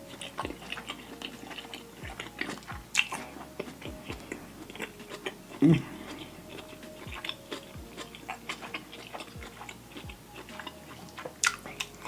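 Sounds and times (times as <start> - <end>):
wet chewing and smacking: 0.0 - 12.0.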